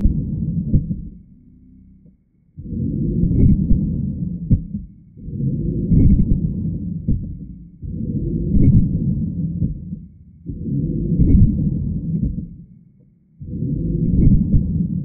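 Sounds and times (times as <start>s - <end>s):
muffled pulsing rumble: 0.0s - 15.0s.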